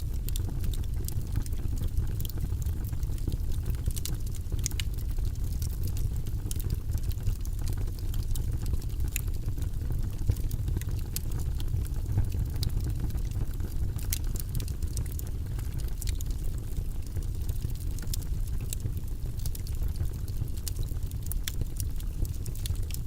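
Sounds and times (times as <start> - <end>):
fire crackles and pops: 0.0 - 23.0
low rumble of fire: 0.0 - 23.0.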